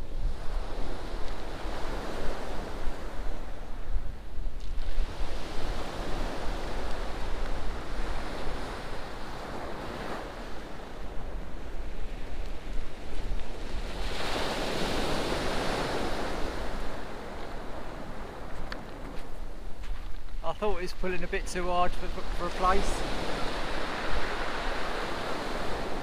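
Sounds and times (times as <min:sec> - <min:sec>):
wind rumbling on microphone: 0:00.0 - 0:26.0
waves breaking on shingle beach: 0:00.3 - 0:03.9, 0:04.5 - 0:26.0.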